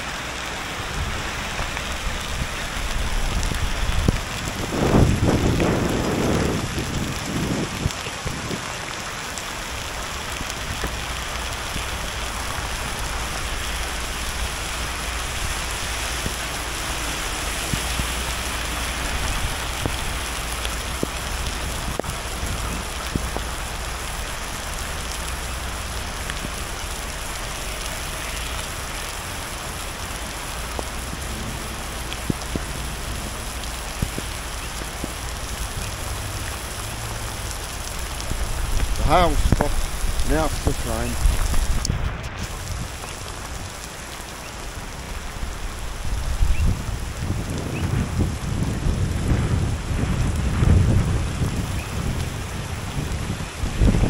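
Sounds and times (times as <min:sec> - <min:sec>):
heavy rain on road: 0:00.0 - 0:54.0
hailstones ticking: 0:00.3 - 0:54.0.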